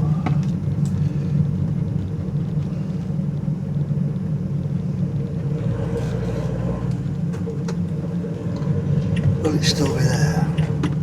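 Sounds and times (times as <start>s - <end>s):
road noise: 0.0s - 11.0s
van engine rumble: 0.0s - 11.0s.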